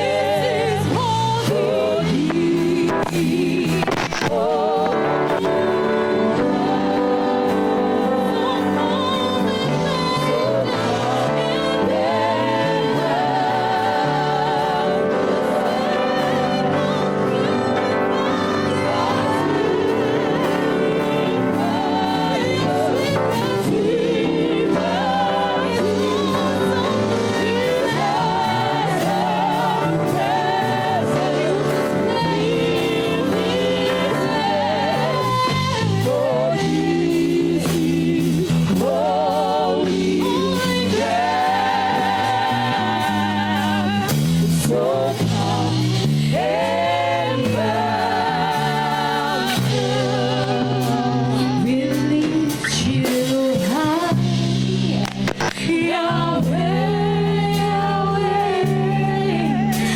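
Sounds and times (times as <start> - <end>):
sustained keyboard chords: 0.0 - 52.6
choir singing: 0.0 - 59.9.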